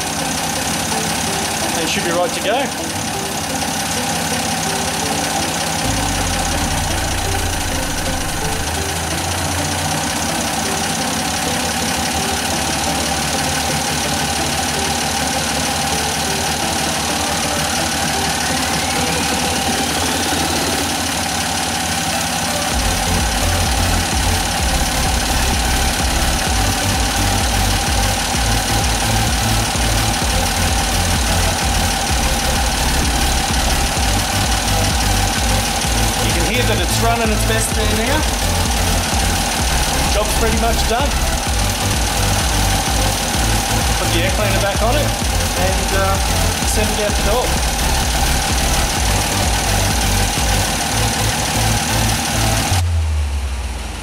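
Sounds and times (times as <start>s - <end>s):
old car engine idling: 0.0s - 54.0s.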